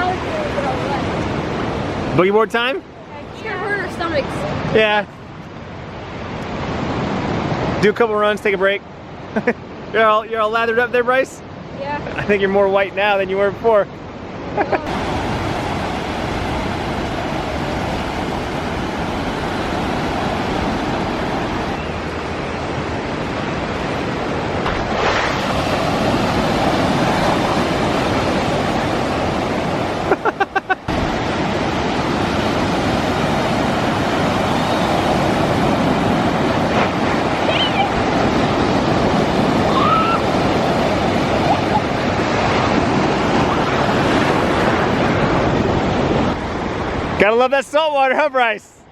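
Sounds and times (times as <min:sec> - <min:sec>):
wave breaking: 0:00.0 - 0:08.4, 0:09.7 - 0:48.2
waves washing onto beach: 0:00.0 - 0:48.9.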